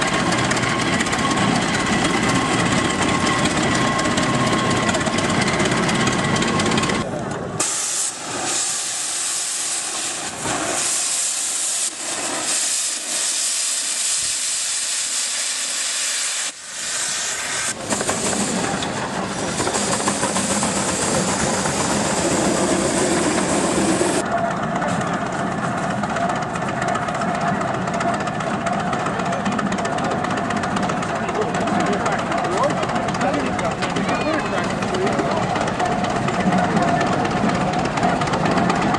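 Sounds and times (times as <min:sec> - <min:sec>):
steam engine hissing: 0:00.0 - 0:38.9.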